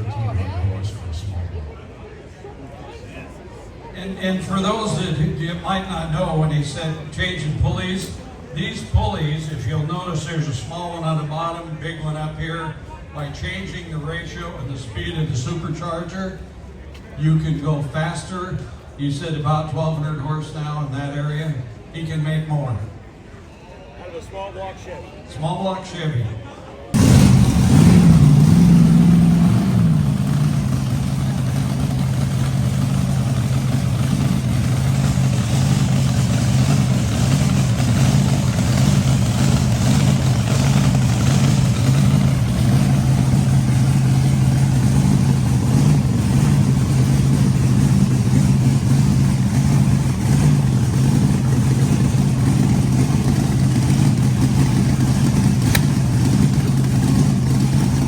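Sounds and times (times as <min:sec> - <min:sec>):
drag car engine revving and idling: 0:04.0 - 0:20.9, 0:27.0 - 0:58.0.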